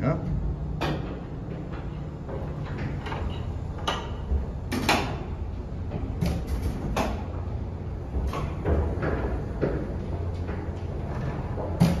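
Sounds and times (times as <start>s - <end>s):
elevator low rumble: 0.0s - 12.0s.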